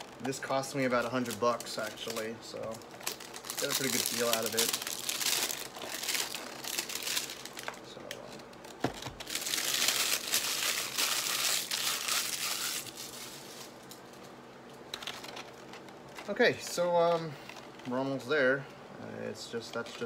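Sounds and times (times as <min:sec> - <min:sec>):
plastic packaging crinkling: 0:00.0 - 0:18.2.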